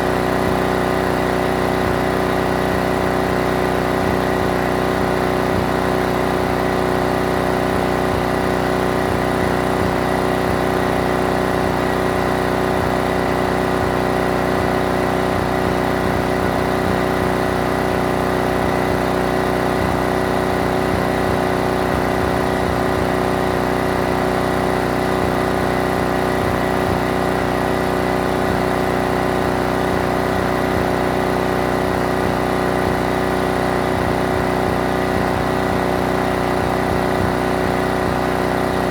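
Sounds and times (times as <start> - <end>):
pressure washer running: 0.0 - 38.9.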